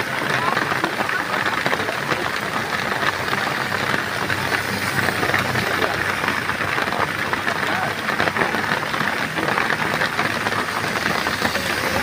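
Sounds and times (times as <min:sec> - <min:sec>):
rain falling: 0:00.0 - 0:12.0
motorcycle engine running: 0:00.2 - 0:12.0.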